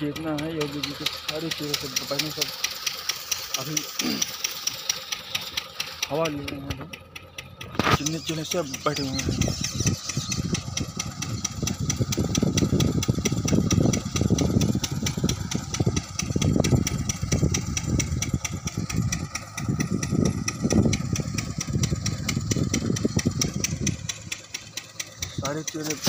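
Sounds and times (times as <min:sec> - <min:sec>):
pump engine ticking: 0:00.0 - 0:26.0.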